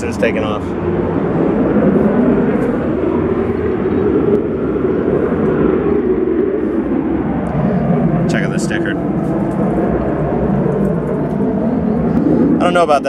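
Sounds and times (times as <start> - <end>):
distant jet engine rush: 0.0 - 13.0.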